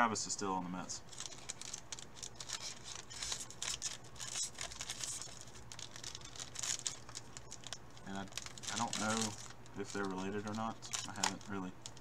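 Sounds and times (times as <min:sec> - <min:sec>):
plastic wrapper crinkling and tearing: 0:01.0 - 0:12.0.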